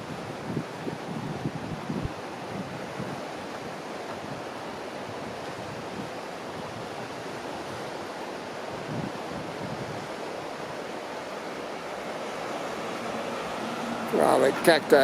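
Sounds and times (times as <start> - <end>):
surf washing on rocky shore: 0.0 - 15.0
wind: 0.0 - 15.0.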